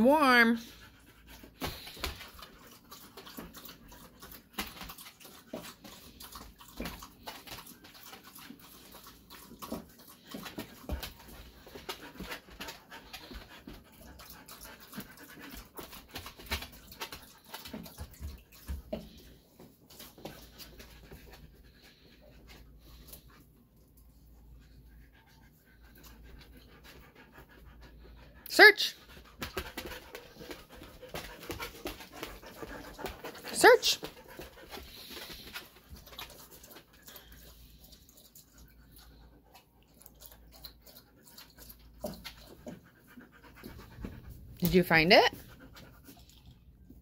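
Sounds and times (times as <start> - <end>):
dog panting and sniffing: 0.0 - 47.0.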